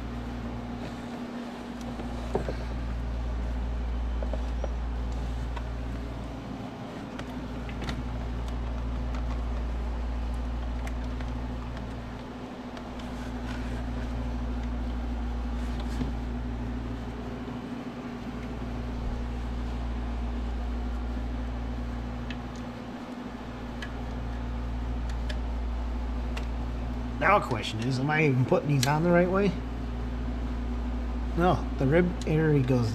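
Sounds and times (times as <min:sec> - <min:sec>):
fan humming: 0:00.0 - 0:32.9.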